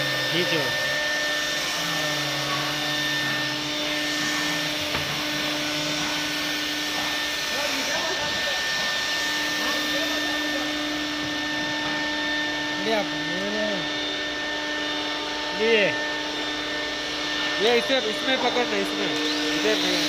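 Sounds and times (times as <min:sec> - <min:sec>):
electric motor whirring: 0:00.0 - 0:20.0.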